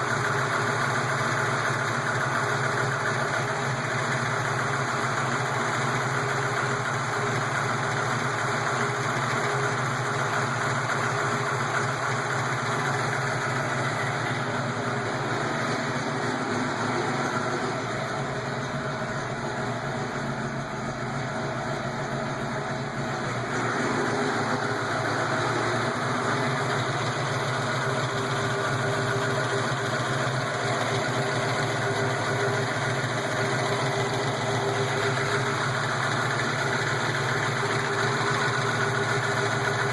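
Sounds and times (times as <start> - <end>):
engine idling with lifter noise: 0.0 - 39.9.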